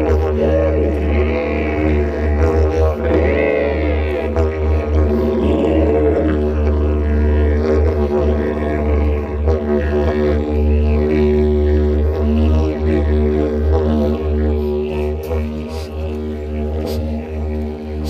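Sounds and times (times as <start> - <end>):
didgeridoo drone: 0.0 - 18.0.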